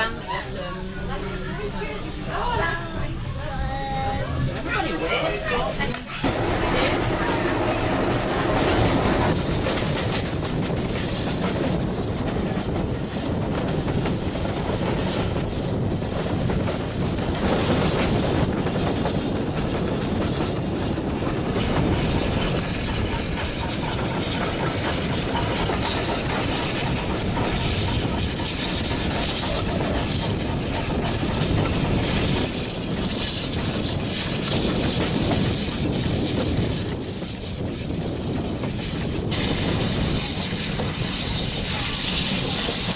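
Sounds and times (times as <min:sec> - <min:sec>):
train carriage rumbling on rails: 0:00.0 - 0:42.9.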